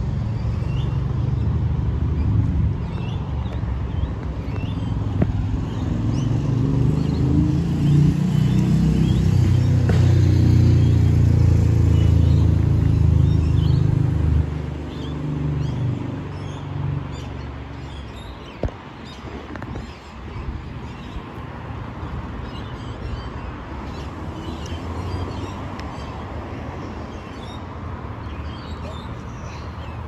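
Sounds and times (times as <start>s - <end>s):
birds chirping: 0.2s - 14.2s, 14.8s - 30.0s.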